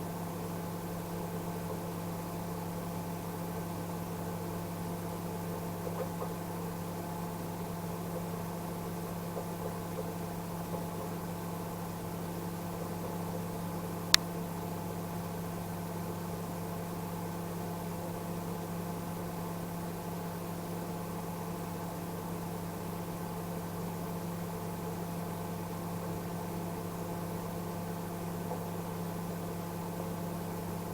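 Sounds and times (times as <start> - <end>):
microwave oven humming: 0.0 - 30.9.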